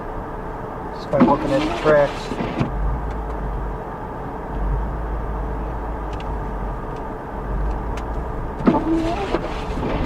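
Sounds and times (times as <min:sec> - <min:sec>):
car cabin rumble while driving: 0:00.0 - 0:10.0.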